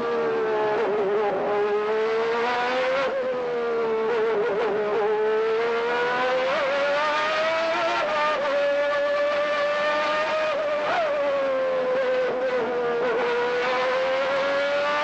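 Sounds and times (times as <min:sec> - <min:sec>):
racing car engine at speed: 0:00.0 - 0:15.0.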